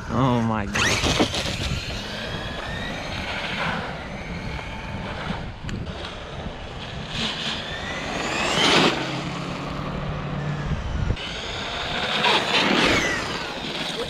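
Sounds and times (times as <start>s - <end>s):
rough tyre and driving noise: 0.0s - 14.0s
electric motor whine: 0.7s - 14.0s.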